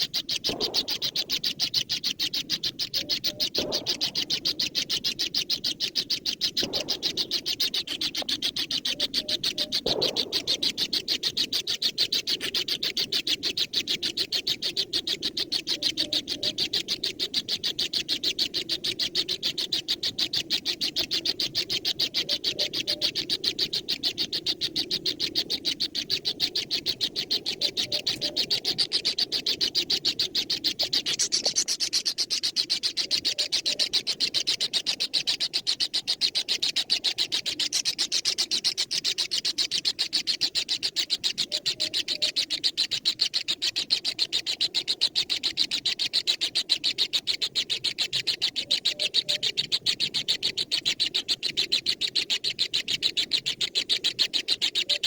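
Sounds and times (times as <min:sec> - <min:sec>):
high-pitched bird chirps: 0:00.0 - 0:55.0.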